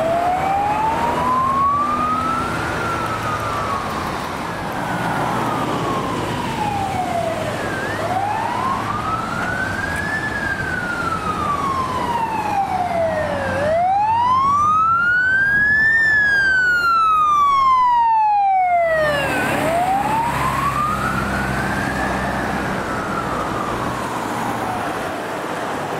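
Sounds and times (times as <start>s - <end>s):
fire engine siren wailing: 0.0s - 25.9s.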